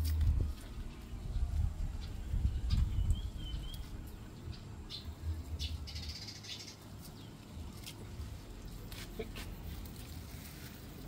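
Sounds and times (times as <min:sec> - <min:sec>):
small birds chirping: 0:00.4 - 0:09.9.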